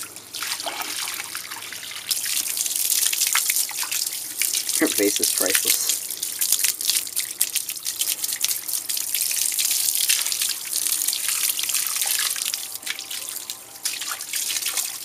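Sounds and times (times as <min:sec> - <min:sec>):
hose water spraying and splashing: 0:00.0 - 0:15.0.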